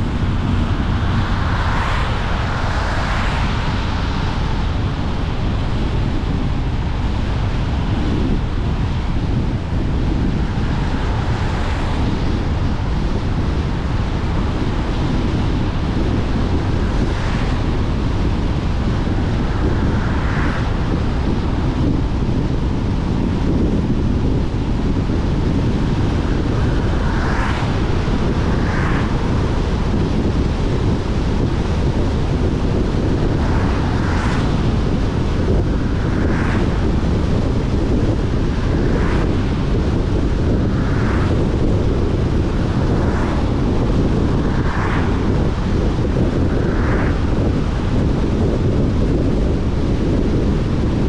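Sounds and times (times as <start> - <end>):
tyres rumbling on wet road: 0.0 - 51.0.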